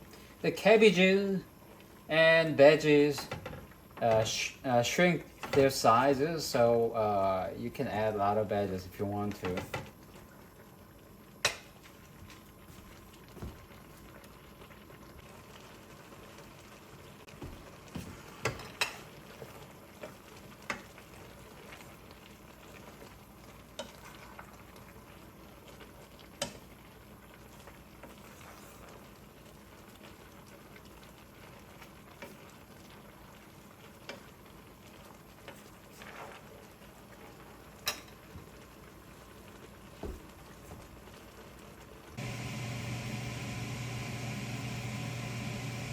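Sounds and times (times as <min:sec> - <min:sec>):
pot boiling with bubbling hiss: 0:00.0 - 0:45.9.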